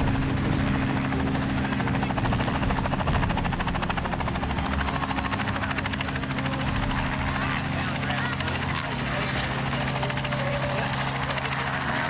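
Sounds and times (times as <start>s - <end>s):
helicopter engine hum: 0.0s - 12.0s
rotor blades beating: 0.0s - 12.0s.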